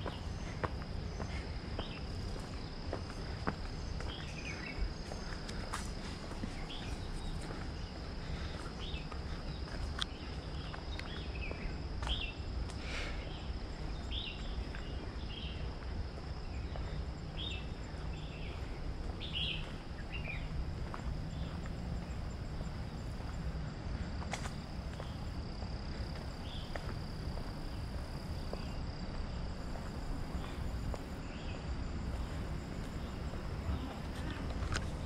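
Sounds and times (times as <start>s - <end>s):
birds chirping: 0.0s - 24.0s, 24.6s - 35.0s
insects trilling: 0.0s - 35.0s.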